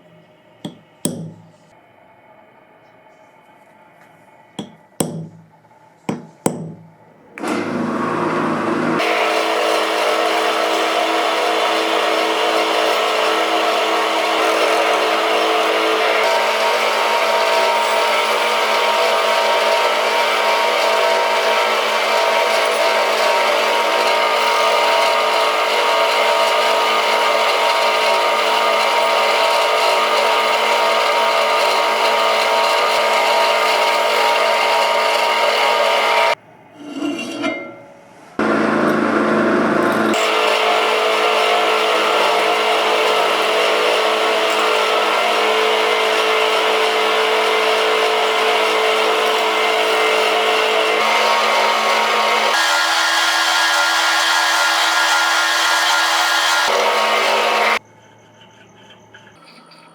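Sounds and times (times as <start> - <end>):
power tool running: 7.4 - 36.4, 38.4 - 57.8.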